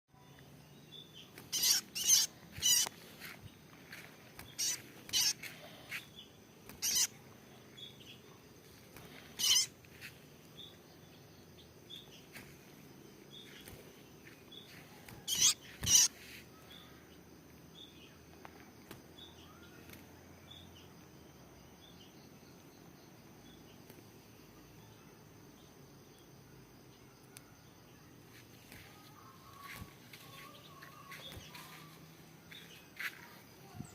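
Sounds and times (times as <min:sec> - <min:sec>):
small bird chirping: 0:00.1 - 0:33.9.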